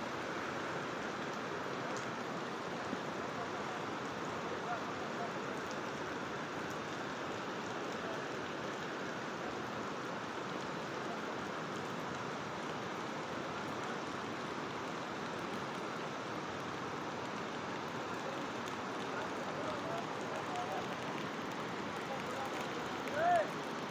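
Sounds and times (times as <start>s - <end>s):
river water rushing: 0.0s - 23.9s.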